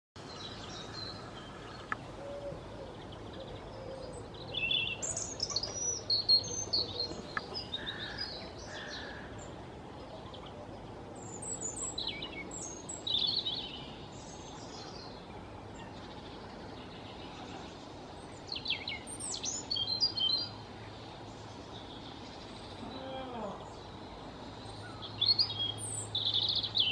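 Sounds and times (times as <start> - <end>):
robin singing: 0.2 - 26.9
steady background noise: 0.2 - 26.9.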